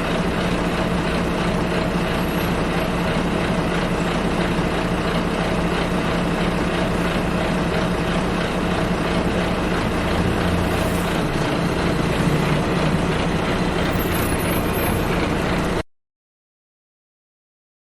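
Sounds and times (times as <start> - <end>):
bus engine humming: 0.0 - 15.8
constant rumble: 0.0 - 15.8.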